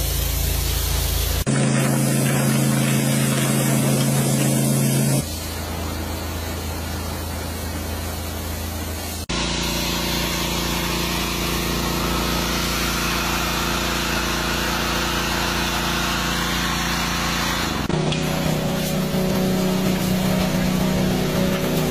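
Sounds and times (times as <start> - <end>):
jet washer machine drone: 0.0 - 21.9
water spraying hiss: 0.0 - 21.9.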